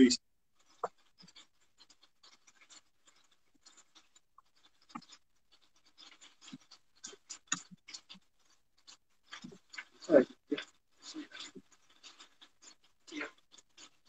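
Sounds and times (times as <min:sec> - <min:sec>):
chicken crackling in a pan: 0:00.6 - 0:14.0.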